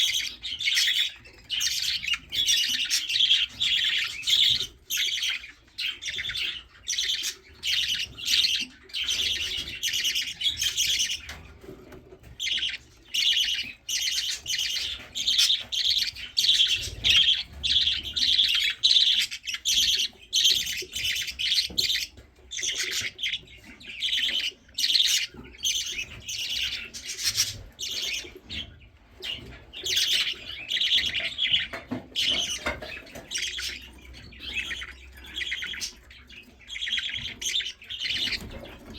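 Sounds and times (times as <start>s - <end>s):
budgerigar chicks chirping: 0.0s - 38.9s.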